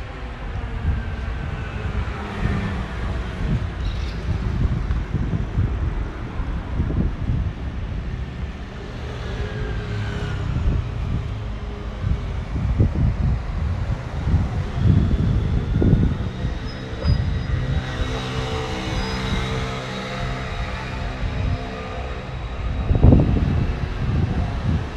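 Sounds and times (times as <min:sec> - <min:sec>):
low vehicle rumble: 0:00.0 - 0:24.9
wind buffeting microphone: 0:00.0 - 0:24.9.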